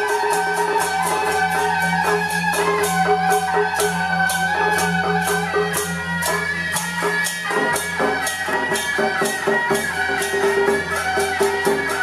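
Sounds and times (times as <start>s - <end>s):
fast percussion strikes: 0.0s - 12.0s
wavering held melody: 0.0s - 12.0s.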